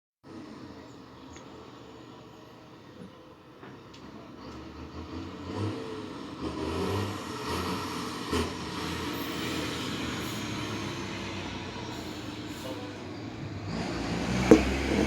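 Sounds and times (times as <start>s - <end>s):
truck diesel engine running: 0.3s - 15.0s.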